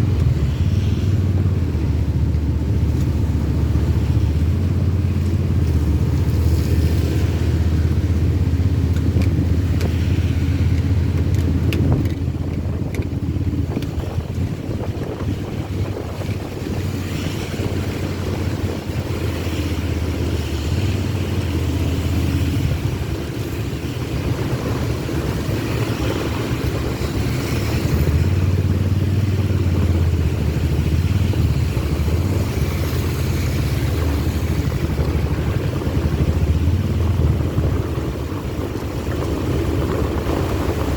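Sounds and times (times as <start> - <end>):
rain and tyre spray hiss: 0.0 - 40.9
vehicle driving on wet road: 0.0 - 40.9.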